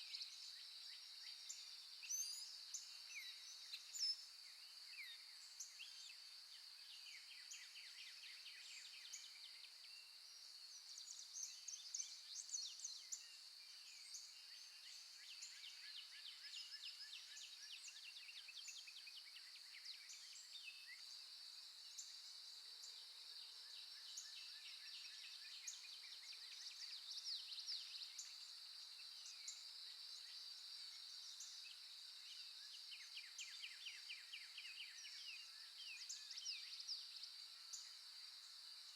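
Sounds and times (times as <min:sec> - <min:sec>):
steady high-pitched hiss: 0:00.0 - 0:38.9.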